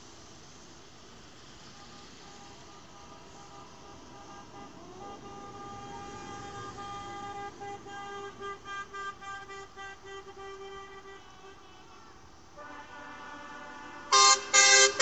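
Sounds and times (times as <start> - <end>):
engines rumbling: 0.0 - 15.0
vehicle horn tooting: 1.7 - 15.0.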